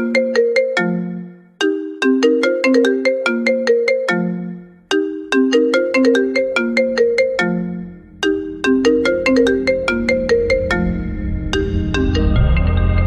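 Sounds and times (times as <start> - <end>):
marimba-like ringtone melody: 0.0 - 13.0.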